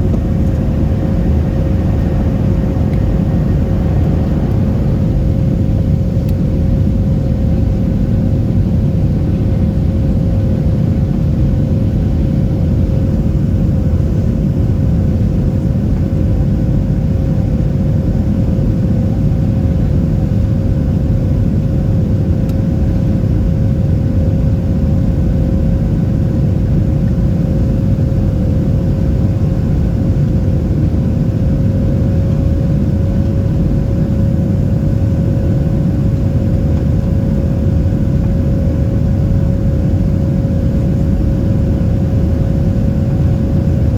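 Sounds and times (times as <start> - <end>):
jet engines rumbling in cabin: 0.0 - 43.9.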